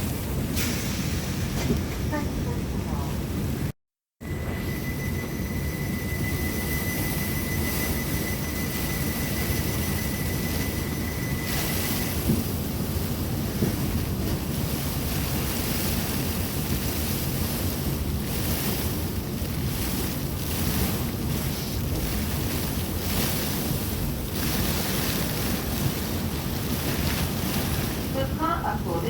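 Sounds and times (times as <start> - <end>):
heavy rain hissing: 4.3 - 29.0.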